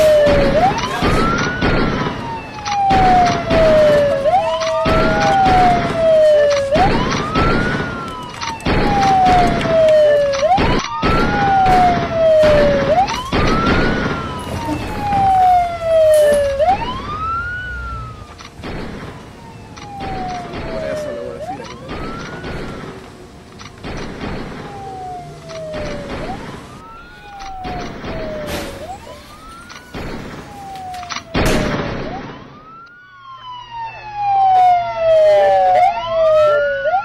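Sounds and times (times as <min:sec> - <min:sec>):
police siren wailing: 0:00.0 - 0:37.0.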